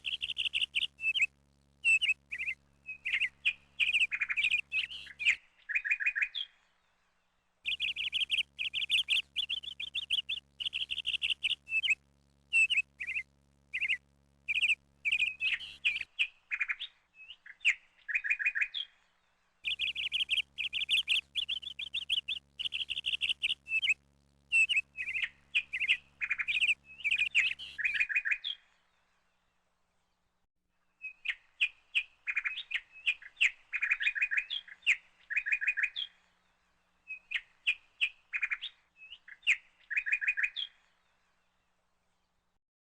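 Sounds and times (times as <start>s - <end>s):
songbird singing: 0.0s - 30.3s, 30.9s - 42.4s.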